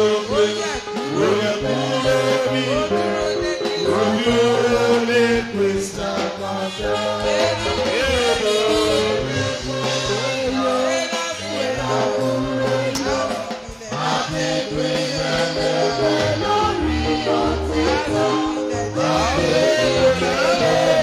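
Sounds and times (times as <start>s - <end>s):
instrumental accompaniment with bass: 0.0s - 21.0s
voices singing a hymn: 0.0s - 21.0s.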